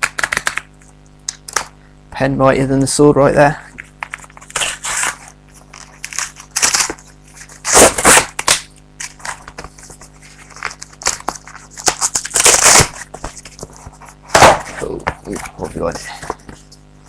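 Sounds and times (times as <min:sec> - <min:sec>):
cardboard and tape ripping: 0:00.0 - 0:00.7, 0:01.3 - 0:01.7, 0:03.8 - 0:16.7.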